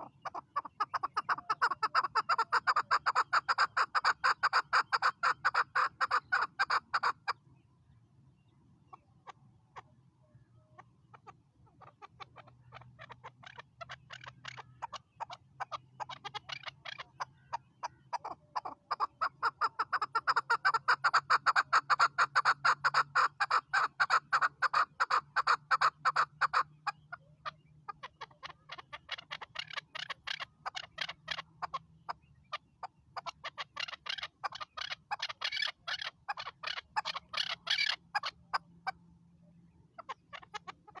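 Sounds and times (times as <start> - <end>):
partridge calling: 0.0 - 41.0.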